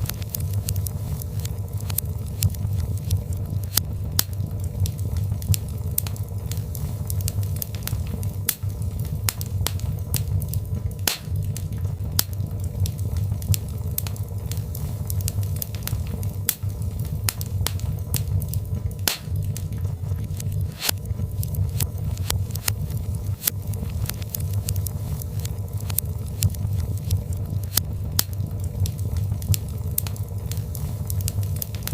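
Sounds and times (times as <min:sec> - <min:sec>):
fire crackles and pops: 0:00.0 - 0:31.9
loud fire pops: 0:00.0 - 0:31.9
low rumble of flames: 0:00.0 - 0:31.9.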